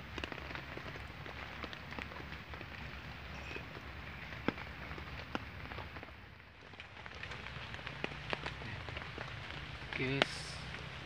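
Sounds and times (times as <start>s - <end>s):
rain dripping: 0.0s - 11.0s.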